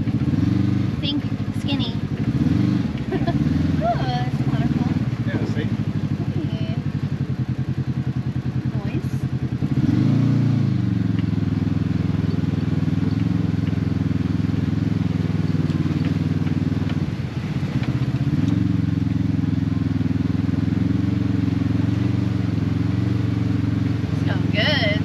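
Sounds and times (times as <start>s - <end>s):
utv engine running: 0.0s - 25.0s.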